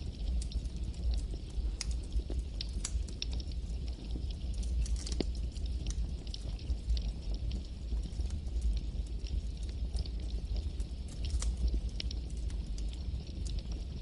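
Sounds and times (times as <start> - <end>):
burning wood crackling and popping: 0.0 - 14.0
campfire flames rumbling: 0.0 - 14.0.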